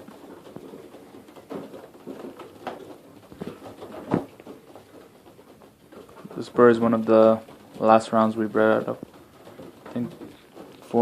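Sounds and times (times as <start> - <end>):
pigeon feet and wings rustling: 0.0 - 11.0.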